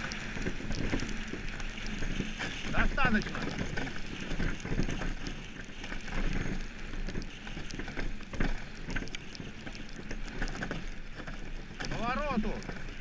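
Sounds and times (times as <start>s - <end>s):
iceboat runners rumbling on ice: 0.0s - 13.0s
small clicks and knocks: 0.0s - 13.0s.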